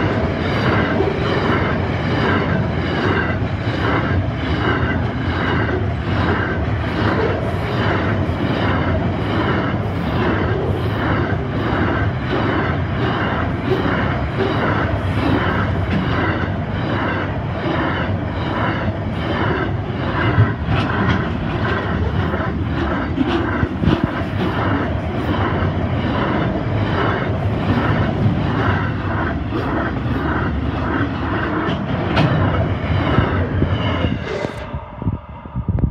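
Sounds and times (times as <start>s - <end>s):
train wheels clattering on rails: 0.0s - 34.6s.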